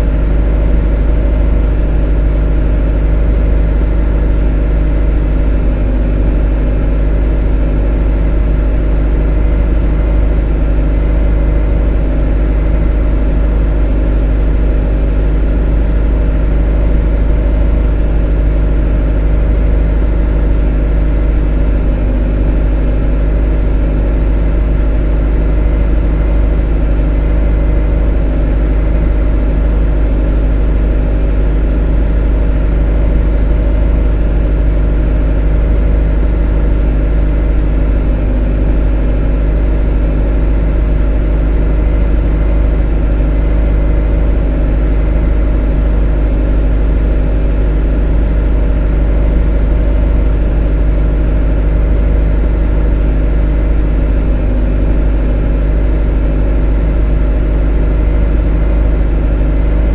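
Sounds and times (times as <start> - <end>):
motor droning: 0.0 - 59.9.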